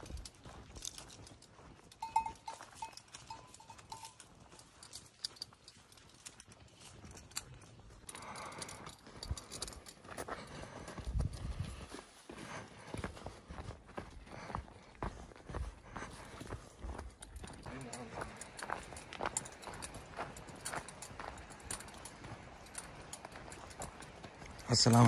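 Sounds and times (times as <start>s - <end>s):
footsteps crunching on dirt: 0.0s - 8.0s, 9.0s - 25.0s.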